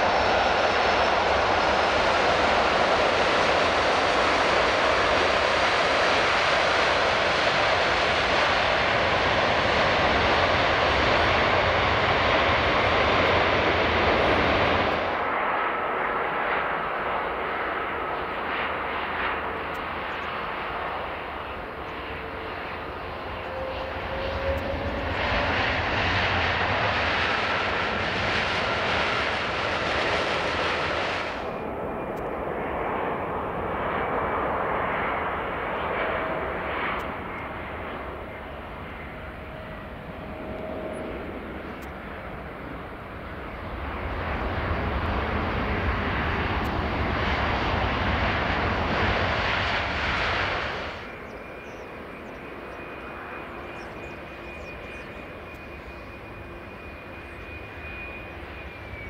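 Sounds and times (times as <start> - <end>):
faint jet whine: 0.0 - 59.0
jet engines rushing: 0.0 - 59.0.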